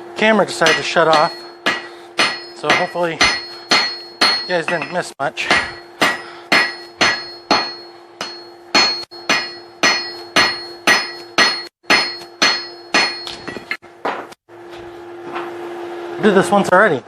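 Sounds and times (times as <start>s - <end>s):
low hum: 0.0s - 16.3s
hammer striking steel on anvil: 0.3s - 14.4s.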